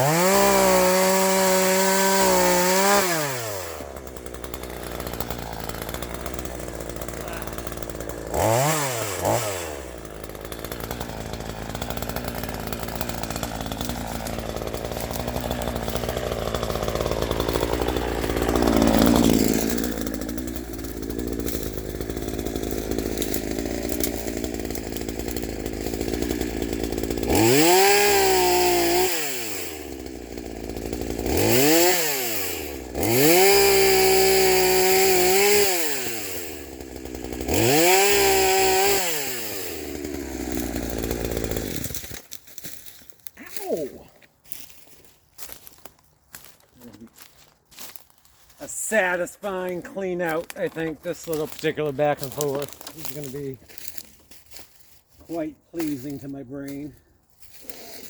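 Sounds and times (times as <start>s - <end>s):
chainsaw revving and cutting: 0.0s - 58.0s.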